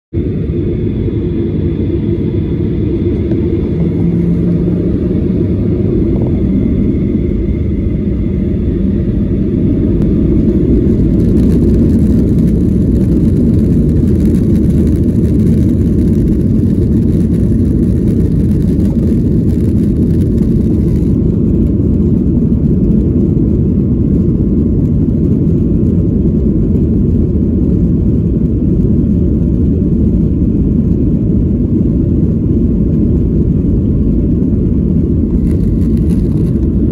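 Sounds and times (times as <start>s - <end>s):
jet engines deep rumble: 0.1s - 36.9s.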